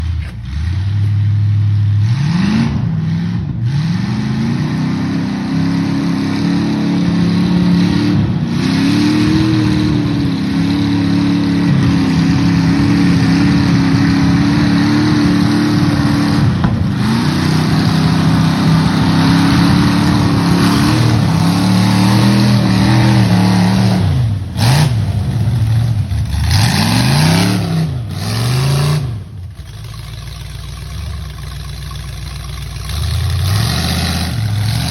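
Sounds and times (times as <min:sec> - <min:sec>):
engine revving: 0:00.0 - 0:34.9.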